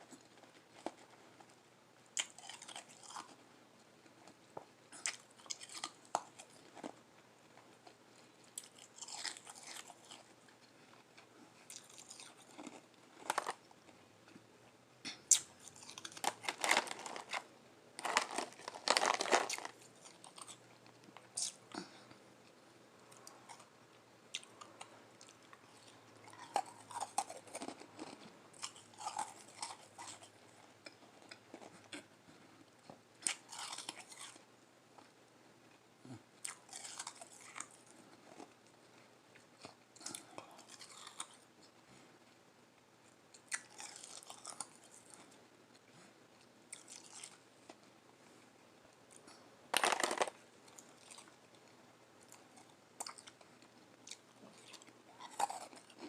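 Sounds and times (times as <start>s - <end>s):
chewing and crunching ice: 0.0s - 3.4s, 4.0s - 14.5s, 15.3s - 22.2s, 24.3s - 34.5s, 36.4s - 38.8s, 39.4s - 41.4s, 43.4s - 45.4s, 46.7s - 47.8s, 49.1s - 56.0s.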